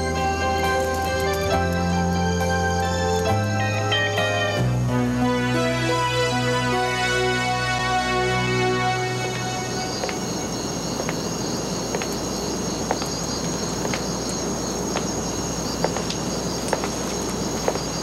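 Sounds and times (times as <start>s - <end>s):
background hiss: 0.0s - 18.0s
crickets chirping: 0.0s - 18.0s.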